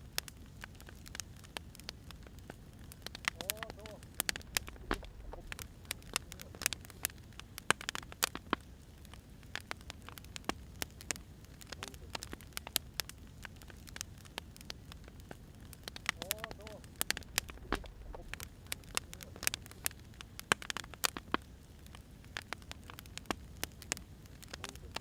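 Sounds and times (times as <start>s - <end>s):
firewood crackling and popping: 0.0s - 25.0s
low steady hiss: 0.0s - 25.0s.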